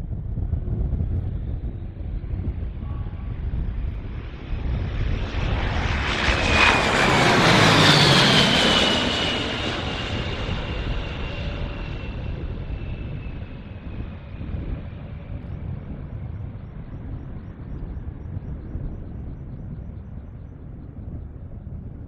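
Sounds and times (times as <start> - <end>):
jet engines roaring past: 0.0 - 22.0.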